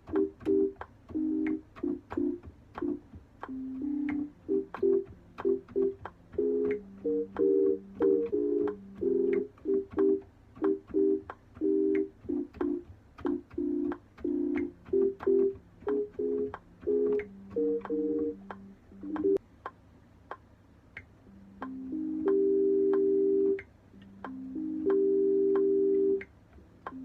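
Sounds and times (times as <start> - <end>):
organ-like keyboard stabs: 0.0 - 19.4, 21.3 - 26.3
light ticks: 0.0 - 27.0.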